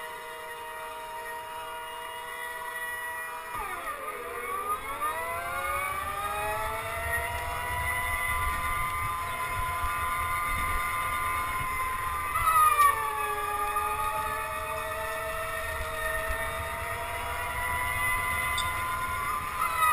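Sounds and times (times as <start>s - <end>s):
go-kart motor whining: 0.0s - 19.9s.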